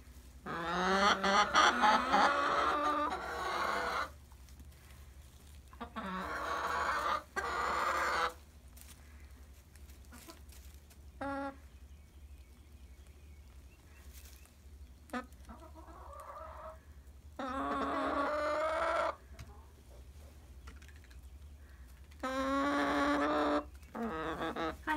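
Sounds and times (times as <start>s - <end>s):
hens calling: 0.2s - 11.9s, 15.0s - 24.9s.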